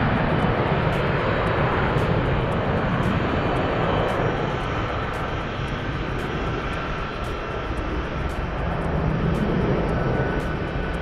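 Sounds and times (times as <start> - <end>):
jet engines taxiing: 0.0 - 11.0.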